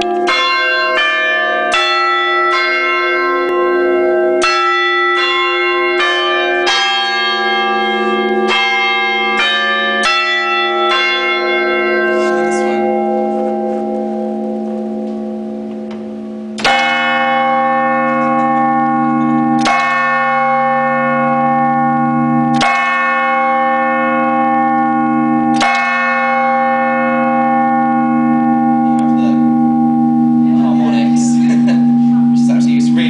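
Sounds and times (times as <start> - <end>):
bell hum: 0.0 - 33.0
church bell striking: 0.0 - 33.0.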